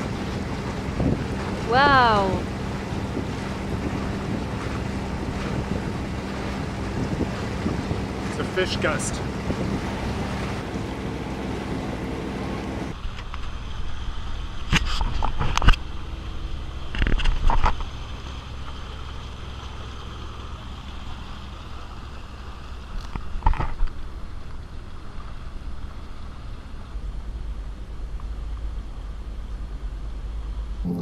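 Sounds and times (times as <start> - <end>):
boat running noise: 0.0 - 31.0.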